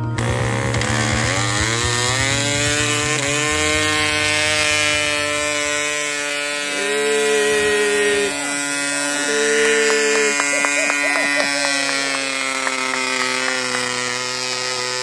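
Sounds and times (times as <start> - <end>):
model engine running: 0.0 - 15.0.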